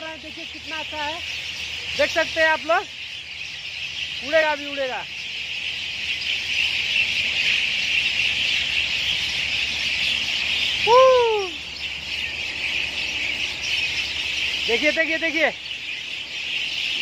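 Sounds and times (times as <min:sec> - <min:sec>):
flock of birds twittering: 0:00.0 - 0:17.0
rising-and-falling bird call: 0:00.0 - 0:17.0.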